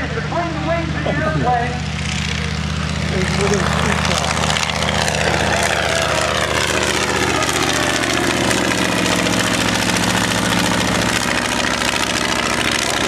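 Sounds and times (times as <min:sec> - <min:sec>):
biplane engine and propeller: 0:00.0 - 0:13.0.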